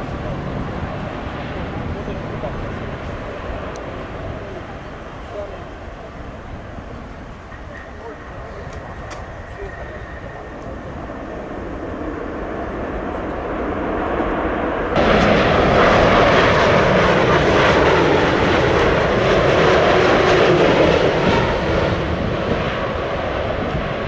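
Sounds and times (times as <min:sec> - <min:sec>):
jet airliner landing: 0:00.0 - 0:24.0.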